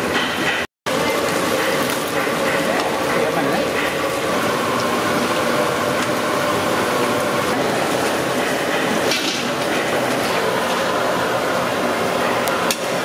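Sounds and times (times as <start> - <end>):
oil sizzling while deep-frying: 0.9 - 13.0
skimmer lifting fried food: 0.9 - 13.0.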